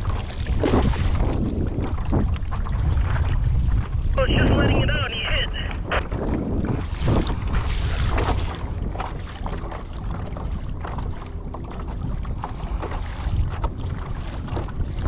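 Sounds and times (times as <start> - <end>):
water slapping against hull: 0.0 - 15.0
wind buffeting microphone: 0.0 - 15.0.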